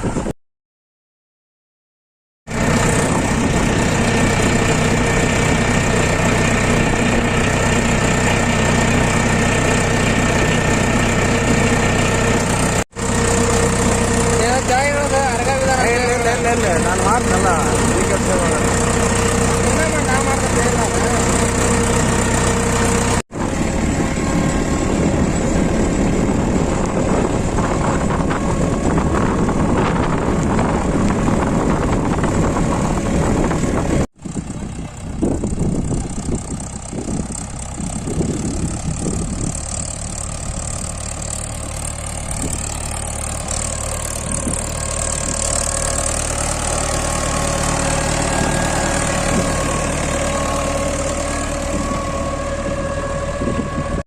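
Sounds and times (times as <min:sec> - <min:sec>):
tractor diesel engine running: 0:02.5 - 0:54.0.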